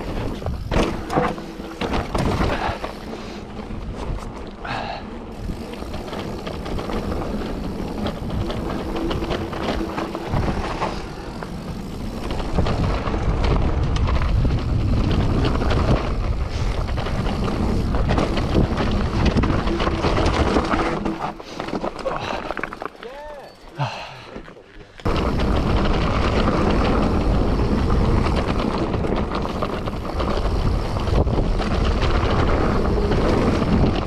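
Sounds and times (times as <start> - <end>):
bike rattling: 0.0 - 34.0
bike tyres rumbling over ground: 0.0 - 34.0.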